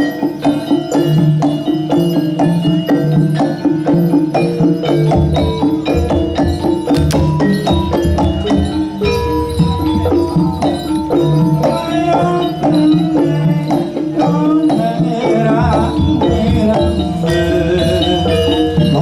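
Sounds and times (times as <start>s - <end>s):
music with drums and percussion: 0.0s - 19.0s.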